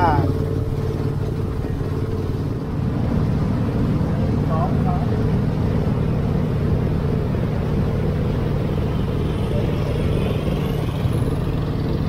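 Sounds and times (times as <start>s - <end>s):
boat motor low drone: 0.0s - 12.0s.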